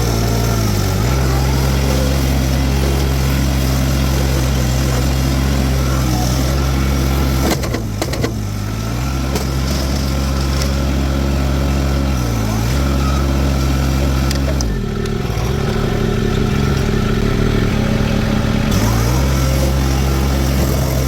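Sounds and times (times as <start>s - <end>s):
diesel engine at high throttle: 0.0s - 21.0s.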